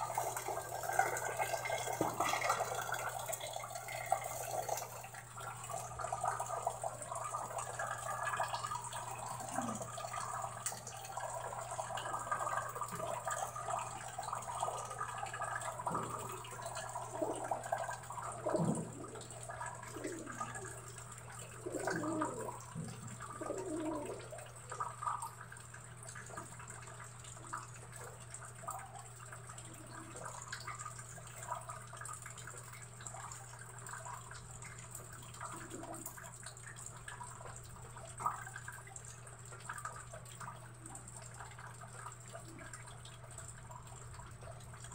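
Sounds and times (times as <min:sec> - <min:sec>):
drips splashing into puddles: 0:00.0 - 0:44.9.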